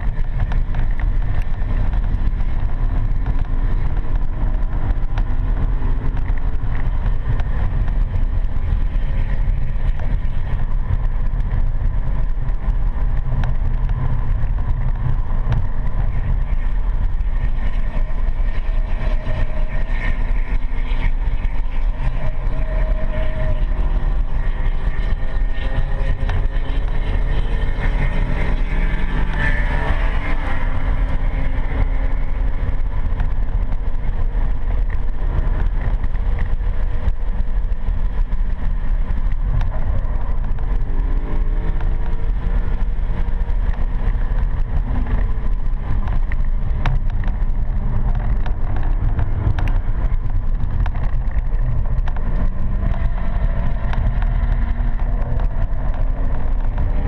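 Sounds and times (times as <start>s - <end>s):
car engine: 0.0s - 57.0s
low rumble and vibration: 0.0s - 57.0s
road noise: 0.0s - 57.0s.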